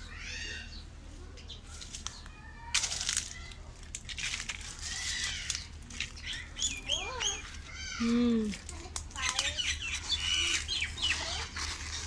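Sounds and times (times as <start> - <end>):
birds chirping: 0.0 - 2.7, 4.8 - 12.0
leaves rustling and crackling: 1.1 - 12.0.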